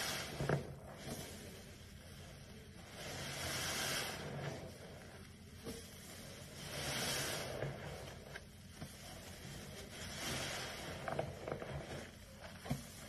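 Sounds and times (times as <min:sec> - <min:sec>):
sponge squelching: 0:00.0 - 0:13.0.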